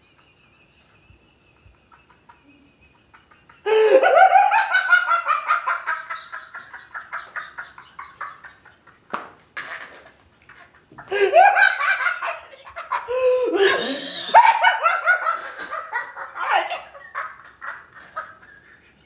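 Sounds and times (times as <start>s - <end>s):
man laughing loudly: 0.0s - 9.2s, 10.0s - 19.0s.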